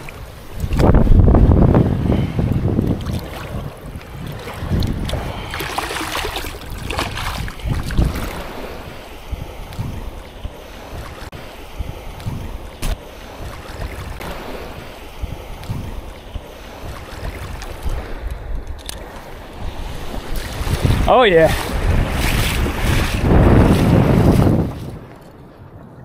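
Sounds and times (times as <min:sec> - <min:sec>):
surf washing on beach: 0:00.0 - 0:26.0
wind buffeting microphone: 0:00.0 - 0:26.0.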